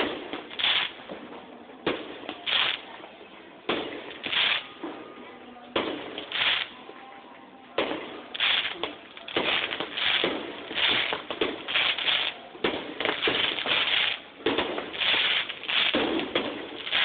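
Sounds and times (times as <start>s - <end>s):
fireworks bangs: 0.0s - 3.0s, 3.6s - 6.8s, 7.8s - 17.0s
fireworks crackling: 0.0s - 5.2s, 5.8s - 6.8s, 7.8s - 17.0s.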